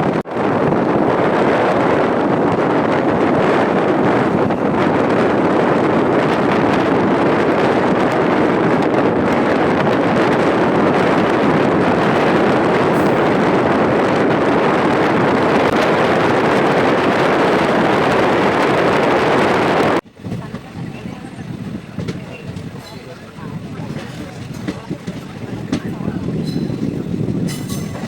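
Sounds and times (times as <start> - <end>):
train running noise: 0.0 - 28.0
wind buffeting microphone: 0.0 - 28.0.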